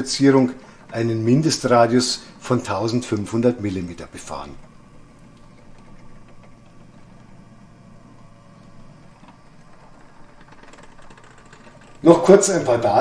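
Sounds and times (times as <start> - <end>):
model train motor humming: 0.0 - 13.0.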